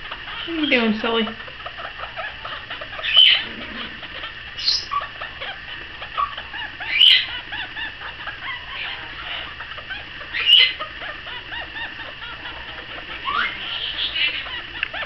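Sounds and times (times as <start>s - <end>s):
parrot clucking calls: 0.0s - 15.0s
parrot sharp calls: 0.0s - 15.0s.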